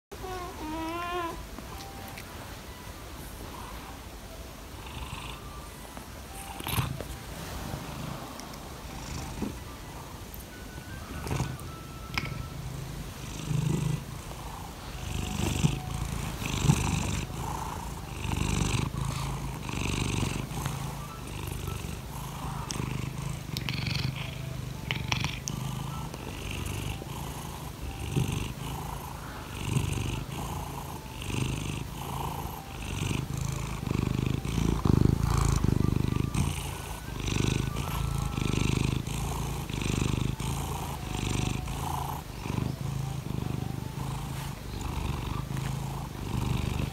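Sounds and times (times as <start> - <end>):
cat purring: 0.1 - 46.9.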